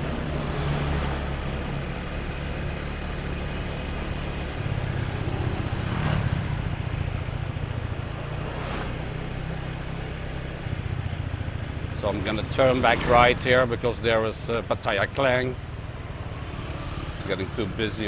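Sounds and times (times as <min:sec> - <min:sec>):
road and traffic noise: 0:00.0 - 0:18.0.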